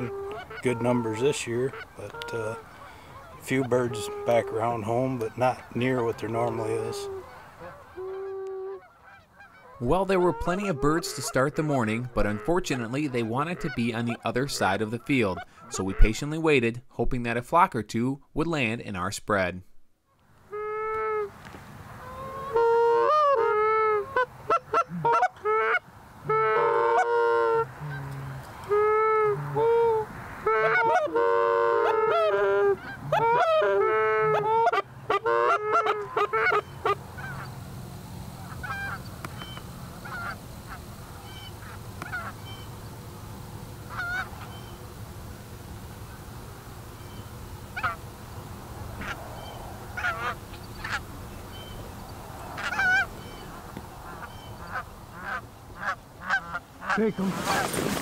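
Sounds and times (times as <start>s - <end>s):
geese honking: 0.0s - 16.3s, 21.9s - 58.0s.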